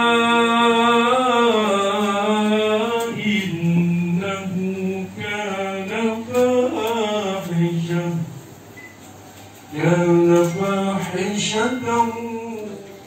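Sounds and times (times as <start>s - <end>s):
man chanting a recitation: 0.0s - 8.5s, 9.7s - 13.0s.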